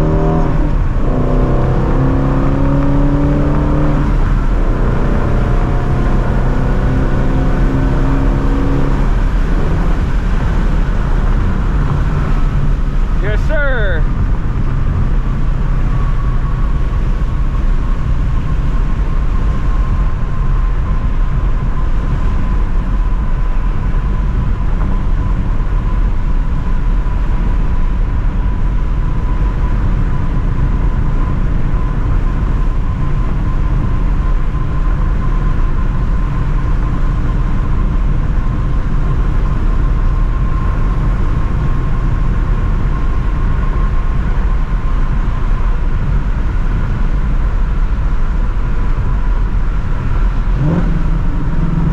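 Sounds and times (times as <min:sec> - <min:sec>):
car engine cruising: 0:00.0 - 0:51.9
road noise: 0:00.0 - 0:51.9.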